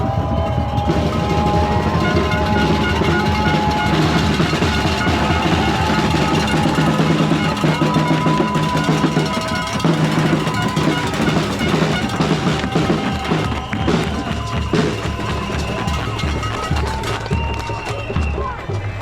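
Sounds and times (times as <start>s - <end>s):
drum beat: 0.0s - 19.0s.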